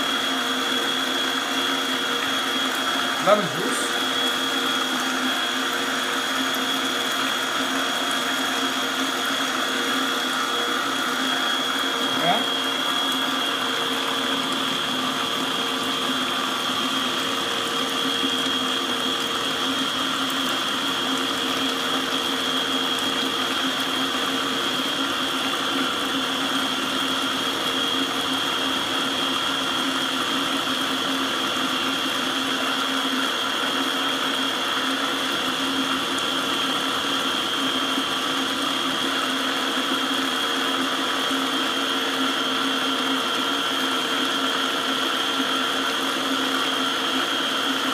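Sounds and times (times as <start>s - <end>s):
electric blender motor whining: 0.0s - 47.9s.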